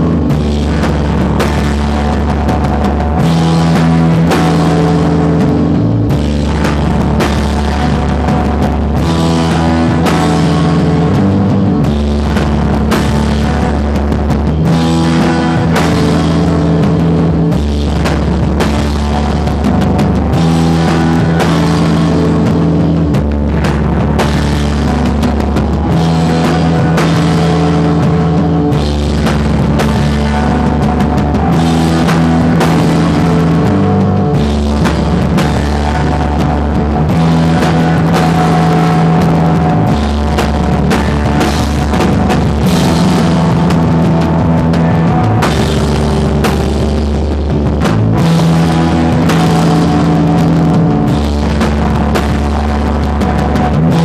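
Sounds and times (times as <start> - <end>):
bass line: 0.0 - 54.0
drum kit steady beat: 0.0 - 54.0
loud rock music: 0.0 - 54.0.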